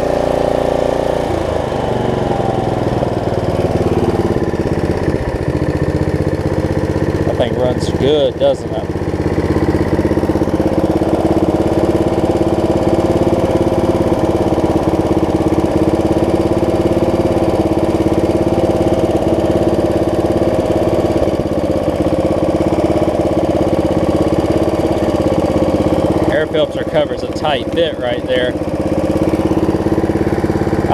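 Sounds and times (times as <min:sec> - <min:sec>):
riding mower engine running: 0:00.0 - 0:30.9.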